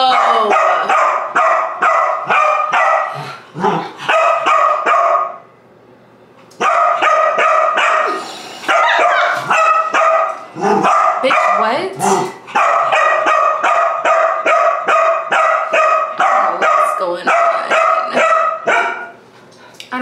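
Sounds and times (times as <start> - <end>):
dog barking: 0.0 - 3.2, 4.0 - 5.4, 6.6 - 19.2.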